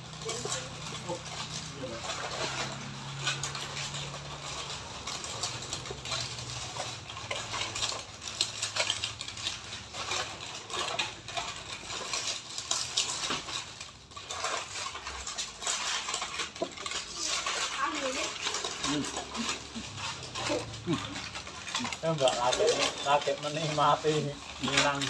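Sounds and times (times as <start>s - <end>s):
wet chewing clicks: 0.0s - 25.0s.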